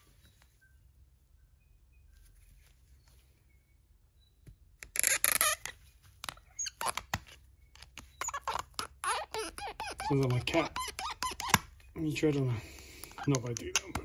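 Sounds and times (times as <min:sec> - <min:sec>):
metal parts squeaking and scraping: 0:02.2 - 0:13.9.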